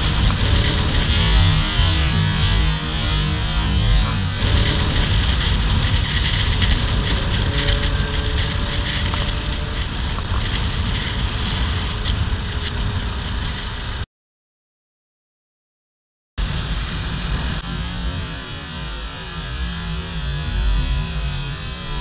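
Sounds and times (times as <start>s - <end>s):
motorcycle engine and road noise: 0.0s - 14.0s, 16.4s - 22.0s
wind noise on microphone: 0.0s - 14.0s, 16.4s - 22.0s.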